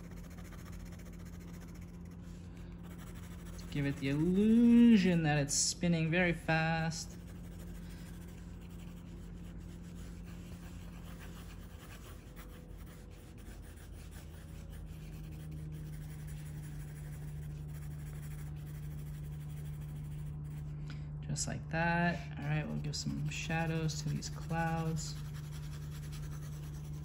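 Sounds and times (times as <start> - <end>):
pencil scratching on paper: 0.0 - 5.1, 7.0 - 20.7, 23.2 - 27.0
steady low hum: 0.0 - 27.0.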